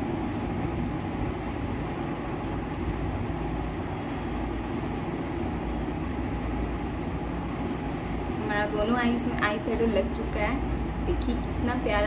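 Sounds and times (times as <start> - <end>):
mechanical hum and whoosh: 0.0 - 12.0.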